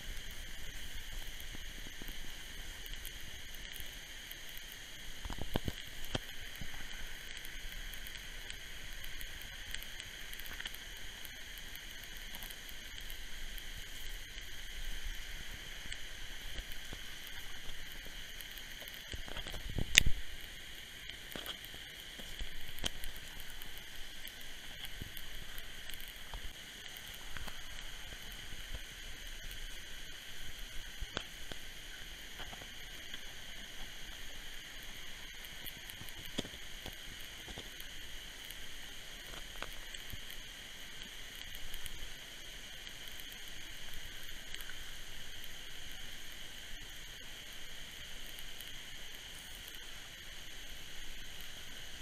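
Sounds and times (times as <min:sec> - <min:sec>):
burning cardboard crackles: 0:00.0 - 0:52.0
water jet spraying hiss: 0:00.0 - 0:52.0.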